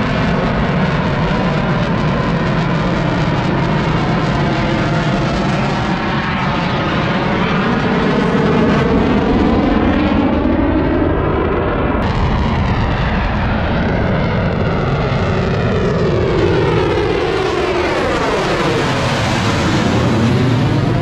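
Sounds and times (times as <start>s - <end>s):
fighter jets flying past: 0.0s - 21.0s.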